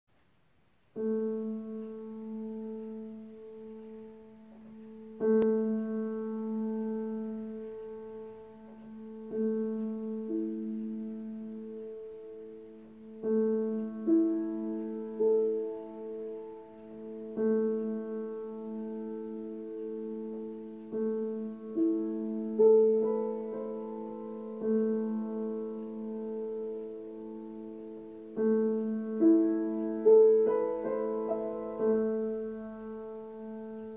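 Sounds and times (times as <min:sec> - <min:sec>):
slow piano chords: 0:00.2 - 0:33.9.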